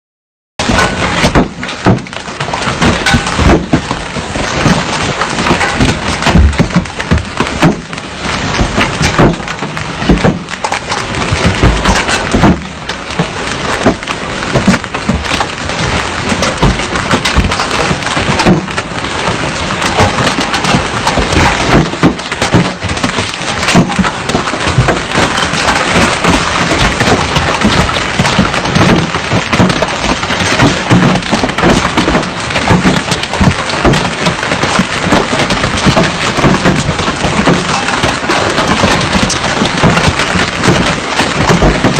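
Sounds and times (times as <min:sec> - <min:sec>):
hailstones pelting down: 0:00.6 - 0:41.9.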